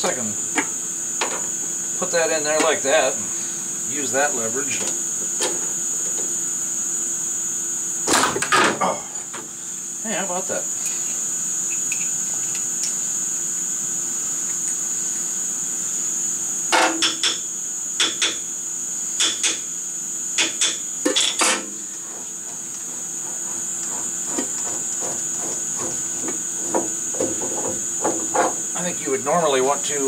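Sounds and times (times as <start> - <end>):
steady high-pitched whine: 0.0 - 30.0.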